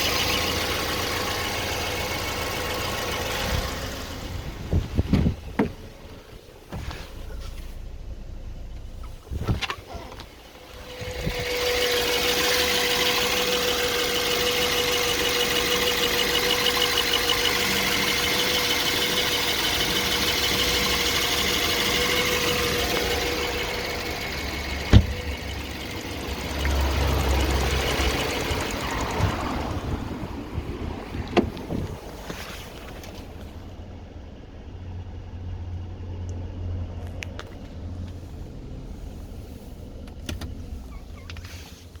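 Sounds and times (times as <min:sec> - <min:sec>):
car engine running with whine: 0:00.0 - 0:42.0.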